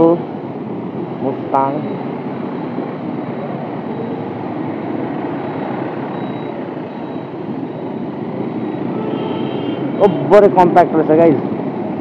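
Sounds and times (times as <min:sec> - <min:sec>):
motorcycle riding in traffic: 0:00.0 - 0:12.0.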